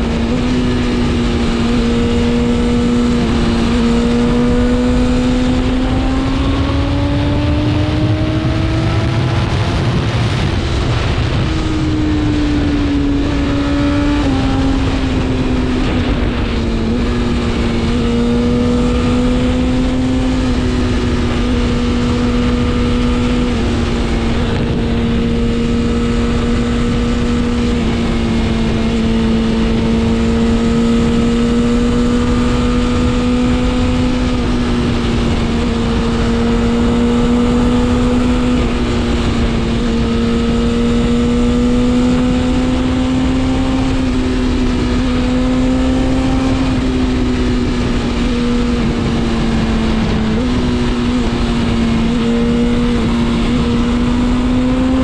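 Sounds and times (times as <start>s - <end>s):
motorcycle engine cruising: 0.0s - 55.0s
steady rushing noise: 0.0s - 55.0s.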